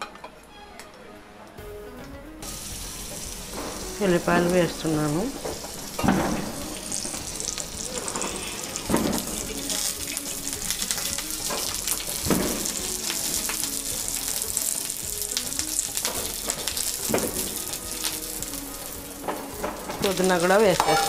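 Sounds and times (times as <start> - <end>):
chillies and garlic sizzling in oil: 2.4 - 21.0.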